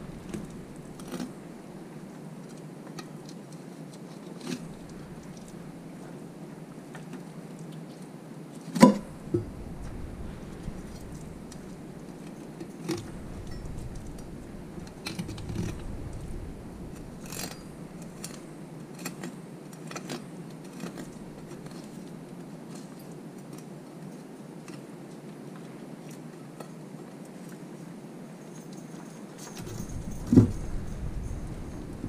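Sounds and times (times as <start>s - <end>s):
steady background hum: 0.0s - 26.0s, 29.4s - 32.0s.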